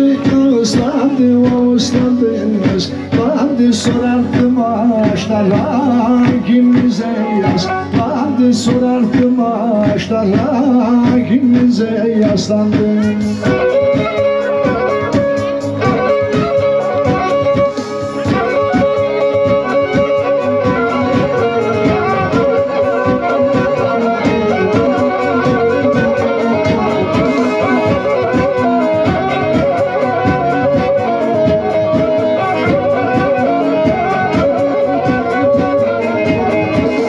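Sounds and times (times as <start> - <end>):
man singing through a pa: 0.0 - 15.0, 18.3 - 37.0
bowed fiddle playing fast: 0.0 - 37.0.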